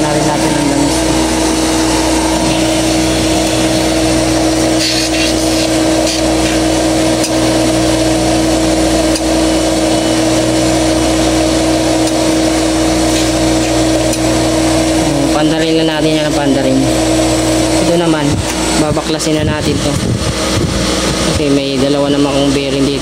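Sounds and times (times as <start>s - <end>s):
motor running with gritty hum: 0.0s - 23.0s.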